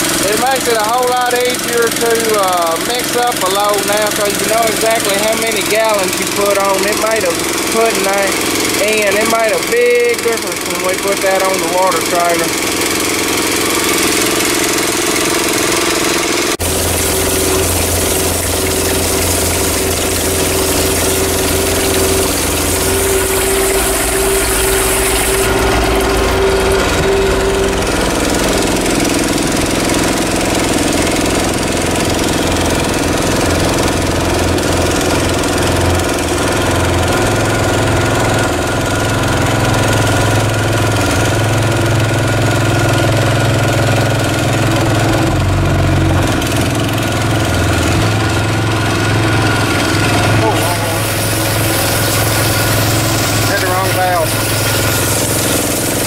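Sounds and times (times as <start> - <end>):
engine driving pump: 0.0 - 56.0.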